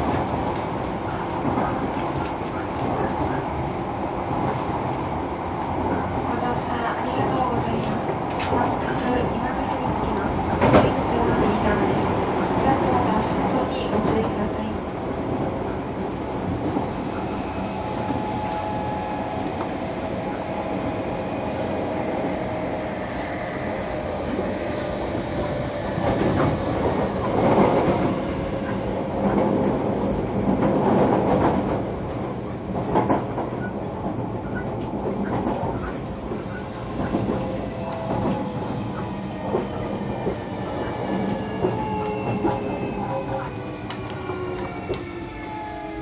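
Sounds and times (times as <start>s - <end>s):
train wheel and rail rumble: 0.0s - 46.0s.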